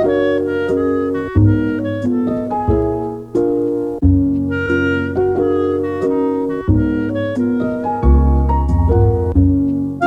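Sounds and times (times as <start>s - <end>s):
piano-led instrumental music: 0.0s - 10.0s.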